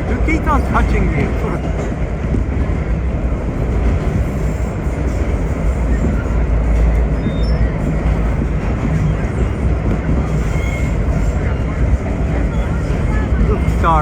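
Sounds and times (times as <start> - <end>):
subway train rumbling on track: 0.0 - 14.0.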